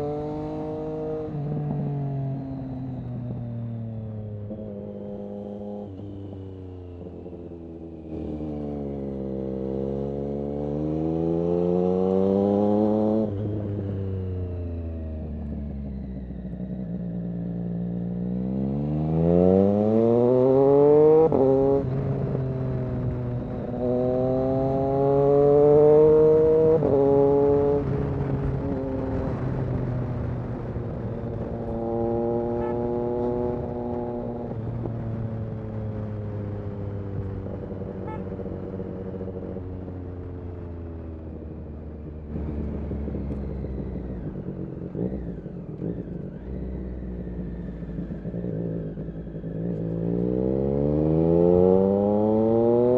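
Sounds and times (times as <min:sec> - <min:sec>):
motorcycle engine revving: 0:00.0 - 0:03.1, 0:03.8 - 0:52.9.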